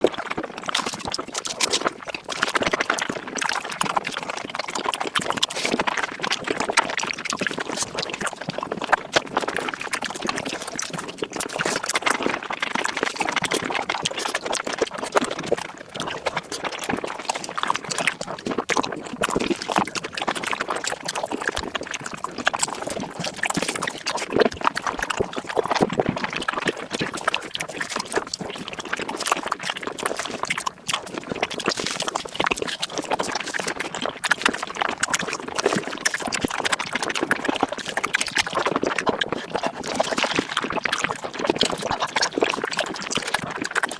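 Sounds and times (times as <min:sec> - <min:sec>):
fast chewing and crunching: 0:00.0 - 0:43.9
wet slurping: 0:00.0 - 0:43.9.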